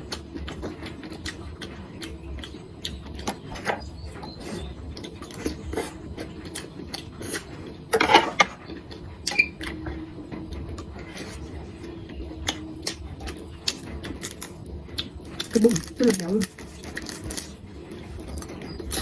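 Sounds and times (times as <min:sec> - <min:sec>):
chewing crispy food: 0:00.0 - 0:19.0.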